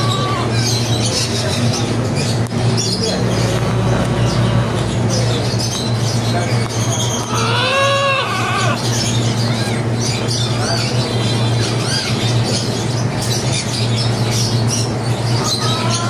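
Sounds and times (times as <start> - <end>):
birds chirping and chattering: 0.0 - 16.0
steady low hum: 0.0 - 16.0.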